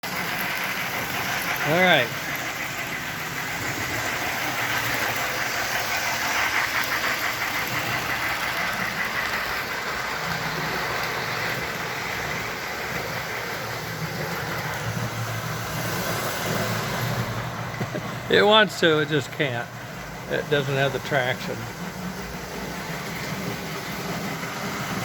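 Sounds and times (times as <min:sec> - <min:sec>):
model train motor and gears: 0:00.0 - 0:25.0
steam sound effects: 0:00.0 - 0:25.0.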